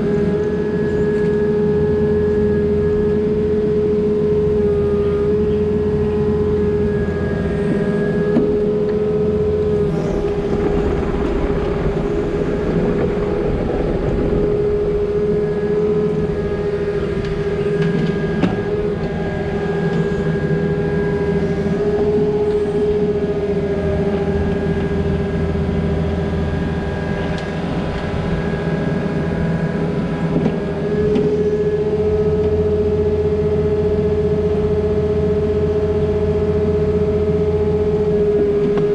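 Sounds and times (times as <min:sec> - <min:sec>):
diesel machine engine rumble: 0:00.0 - 0:38.9
steady mechanical whine: 0:00.0 - 0:38.9.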